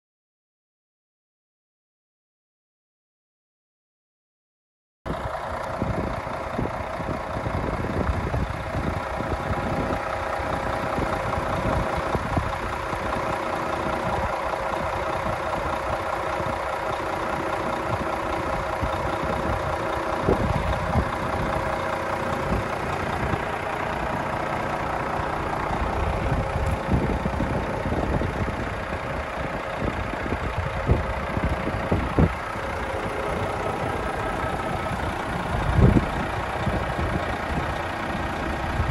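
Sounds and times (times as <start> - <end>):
diesel engine idling: 5.1 - 38.9
low rumble: 5.1 - 38.9.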